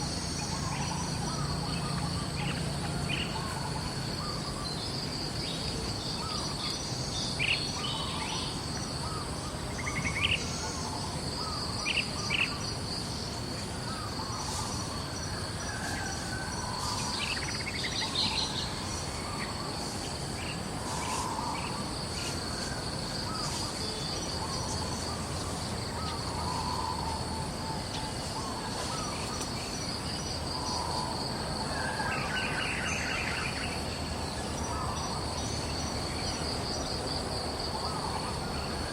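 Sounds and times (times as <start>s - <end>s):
pulsing insect trill: 0.0s - 38.9s.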